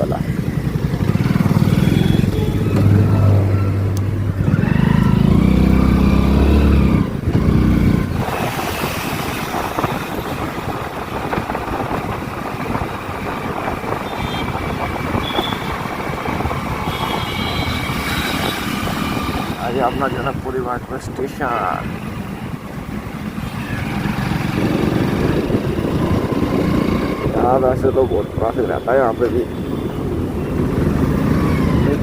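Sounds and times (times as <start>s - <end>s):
motorcycle engine revving: 0.0s - 20.6s, 21.5s - 27.7s, 30.0s - 32.0s
wind and road noise: 0.0s - 32.0s.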